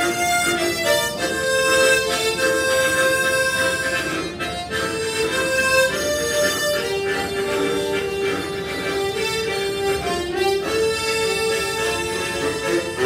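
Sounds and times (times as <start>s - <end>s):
harmonica ensemble playing: 0.0s - 13.0s.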